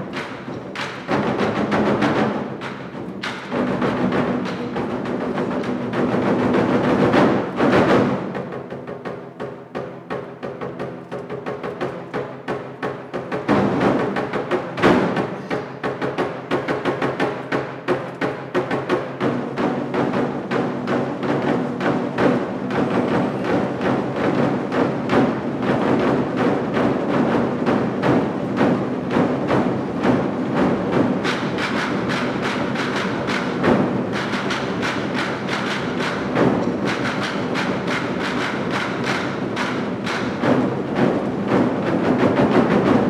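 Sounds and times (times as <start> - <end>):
drum ensemble playing fast rhythm: 0.0 - 43.0
heavy drum stroke: 0.0 - 43.0.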